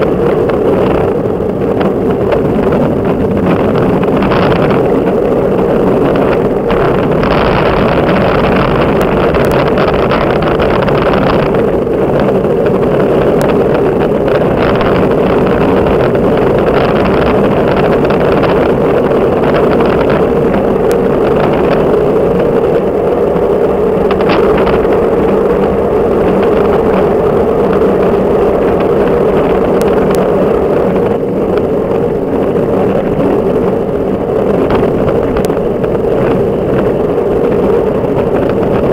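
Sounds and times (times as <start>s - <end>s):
bicycle tyre noise on asphalt: 0.0s - 38.9s
wind buffeting microphone: 0.0s - 38.9s.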